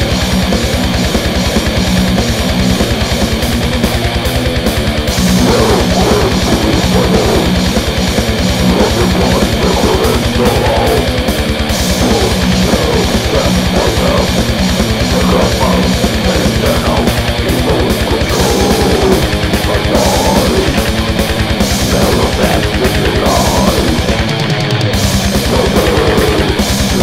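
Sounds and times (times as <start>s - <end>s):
distorted electric guitars: 0.0s - 27.0s
rapid kick drum and drums: 0.0s - 27.0s.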